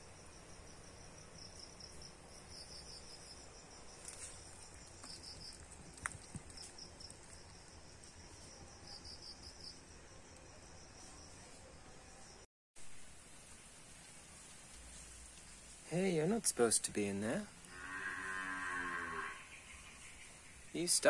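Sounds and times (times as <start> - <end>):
insects chirping: 0.0 - 12.5, 13.4 - 21.0.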